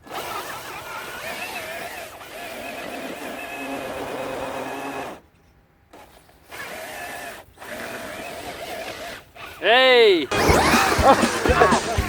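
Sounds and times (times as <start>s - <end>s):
toy truck motor whining: 0.0s - 12.0s.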